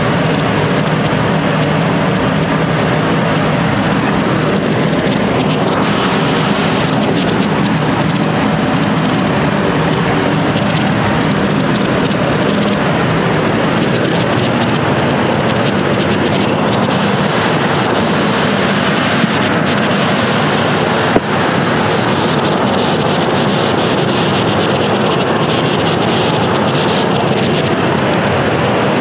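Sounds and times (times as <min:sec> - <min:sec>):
heavy rain: 0:00.0 - 0:29.0
strong storm wind: 0:00.0 - 0:29.0.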